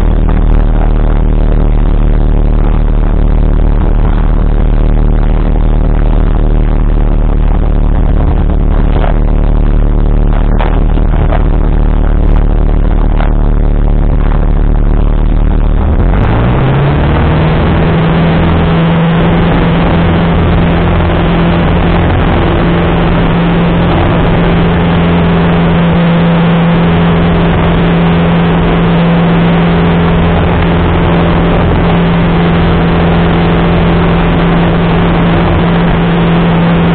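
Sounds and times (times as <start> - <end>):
light aircraft engine running: 0.0 - 36.9
rush of airflow: 0.0 - 36.9.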